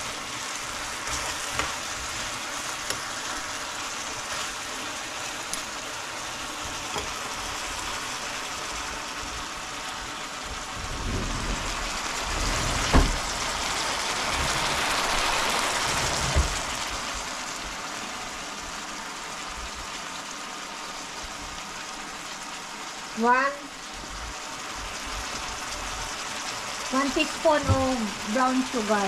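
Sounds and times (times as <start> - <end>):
food sizzling in a frying pan: 0.0 - 29.0.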